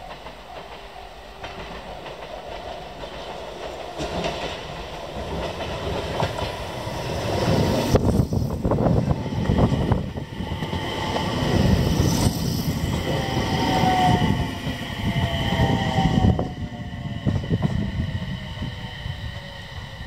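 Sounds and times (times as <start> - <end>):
train wheel rumble: 0.0 - 20.0.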